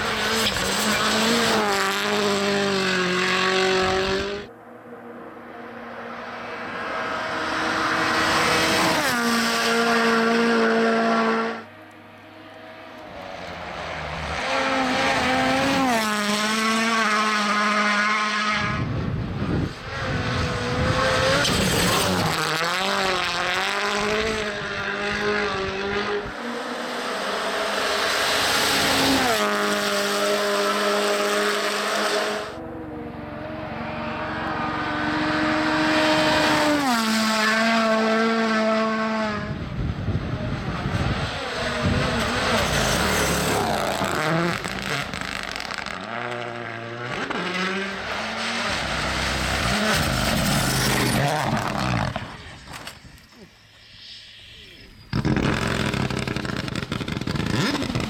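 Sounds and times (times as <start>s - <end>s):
rally cars passing at high revs: 0.0s - 53.7s, 55.1s - 58.0s.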